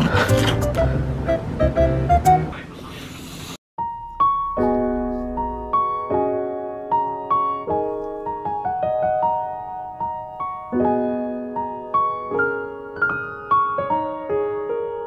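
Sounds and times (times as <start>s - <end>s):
light piano tune: 0.0s - 2.6s, 3.8s - 15.0s.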